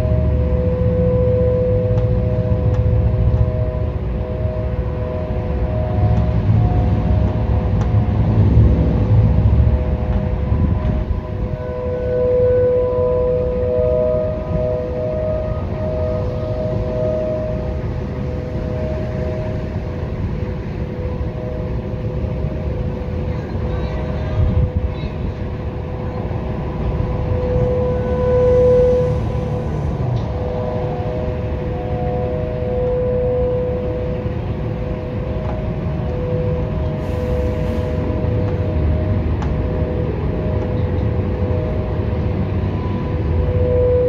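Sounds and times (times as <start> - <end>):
distant warning sirens: 0.0 - 44.0
low rumble: 0.0 - 44.0.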